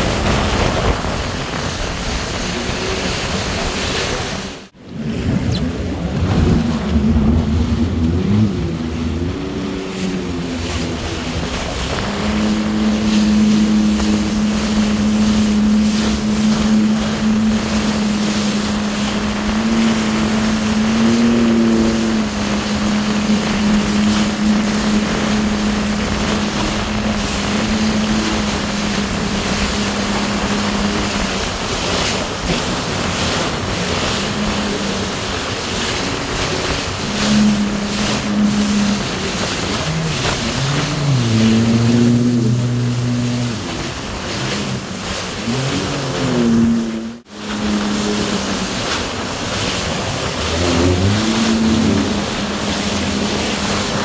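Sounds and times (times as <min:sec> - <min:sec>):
jet ski engine running: 0:00.0 - 0:54.0
water rushing and spraying: 0:00.0 - 0:54.0
wind buffeting microphone: 0:00.0 - 0:54.0.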